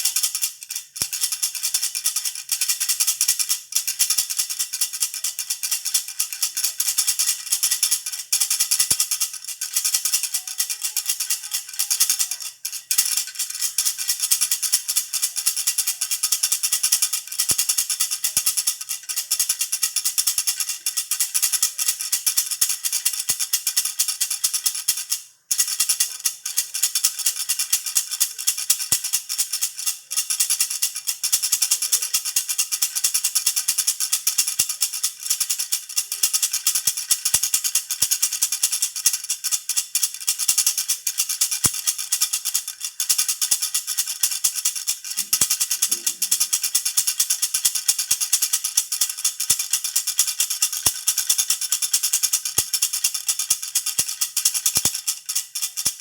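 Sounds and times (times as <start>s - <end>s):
baby rattle shaken fast: 0.0s - 56.0s.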